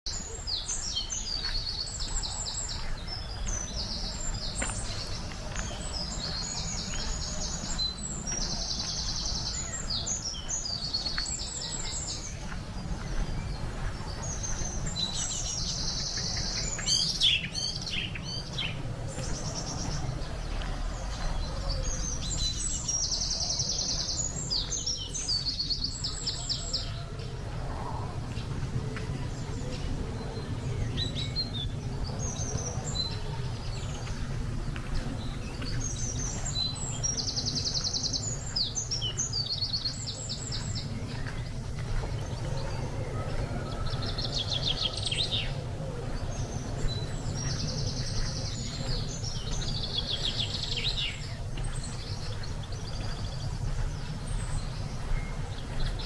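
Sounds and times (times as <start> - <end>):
songbirds trilling and chirping: 0.0 - 56.0
low wind rumble: 0.1 - 56.0.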